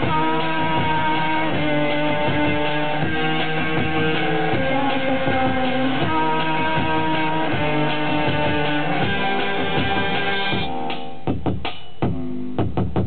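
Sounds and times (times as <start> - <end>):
electronic beat: 0.0 - 13.0
synthesizer: 0.0 - 13.0.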